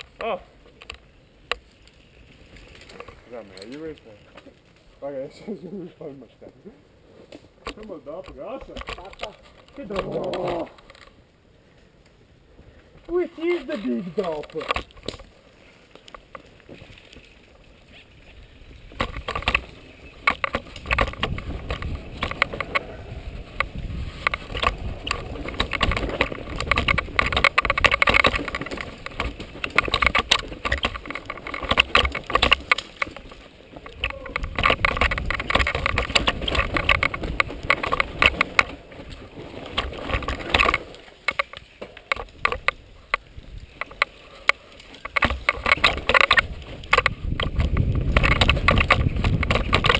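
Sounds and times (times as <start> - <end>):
mountain bike clattering on trail: 0.0 - 49.9.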